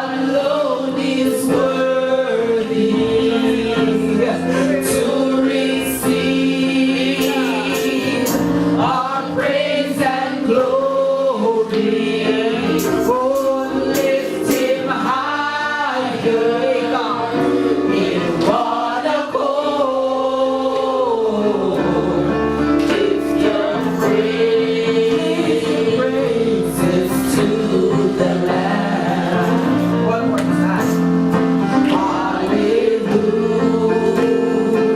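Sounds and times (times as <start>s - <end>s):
gospel singing voices: 0.0s - 34.9s.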